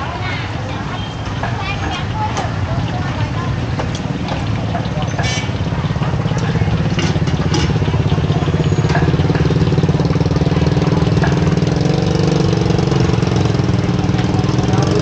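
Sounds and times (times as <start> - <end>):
small engine idling: 2.6 - 15.0.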